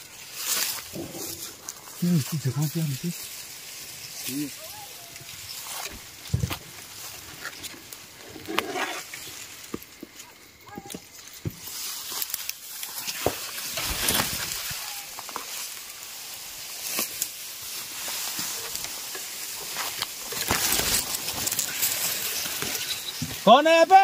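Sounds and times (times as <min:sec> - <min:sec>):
dry grass rustling underfoot: 0:00.0 - 0:24.0
stems snapping and crunching: 0:00.0 - 0:24.0.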